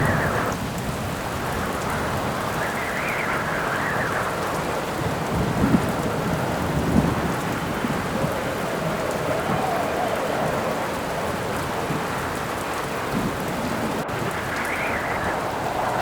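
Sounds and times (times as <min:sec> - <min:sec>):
steady rain: 0:00.0 - 0:16.0
thunder rumbles: 0:00.0 - 0:16.0
wind howling: 0:00.0 - 0:16.0.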